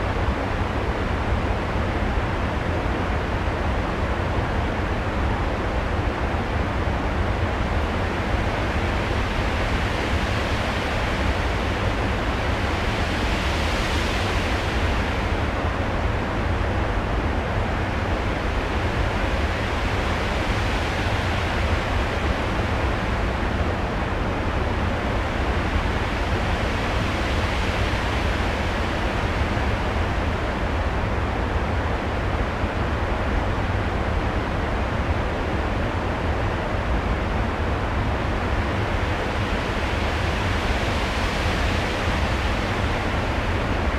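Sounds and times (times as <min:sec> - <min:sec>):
steady rushing noise: 0:00.0 - 0:43.9.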